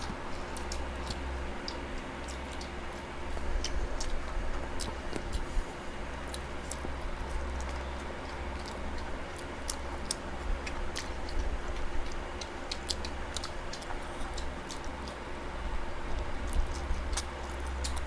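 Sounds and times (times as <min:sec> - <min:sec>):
chewing with wet mouth clicks: 0:00.0 - 0:18.0
steady low hum: 0:00.0 - 0:18.0.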